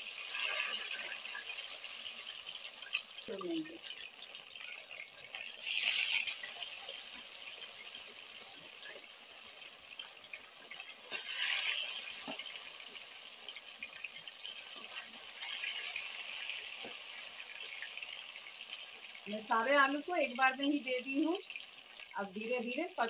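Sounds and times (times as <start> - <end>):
potatoes sizzling in hot oil: 0.0 - 23.0.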